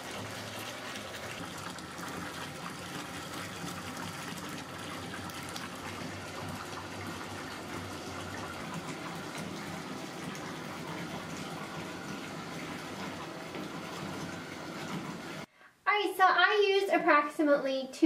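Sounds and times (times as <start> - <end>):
bath tap water gushing: 0.0 - 15.5.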